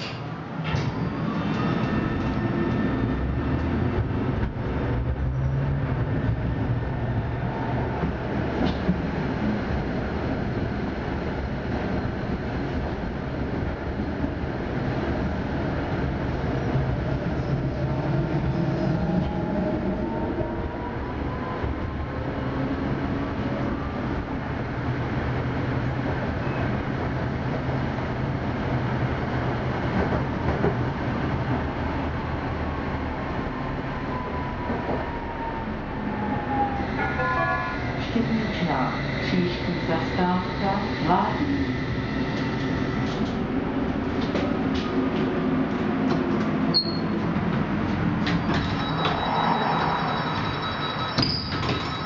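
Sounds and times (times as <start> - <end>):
tram rumbling along rails: 0.0 - 52.0.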